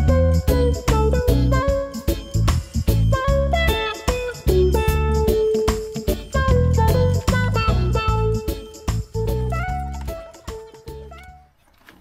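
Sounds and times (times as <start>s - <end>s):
background music: 0.0s - 11.5s.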